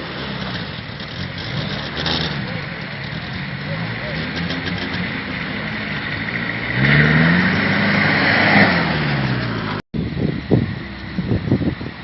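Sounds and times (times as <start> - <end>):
motocross bike engine revving: 0.0 - 9.8.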